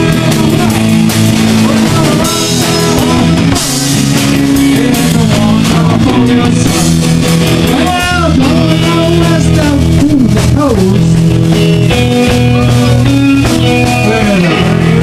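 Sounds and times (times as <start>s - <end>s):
bass guitar: 0.0s - 15.0s
drum kit with cymbals: 0.0s - 15.0s
electric guitar bending notes: 0.0s - 15.0s.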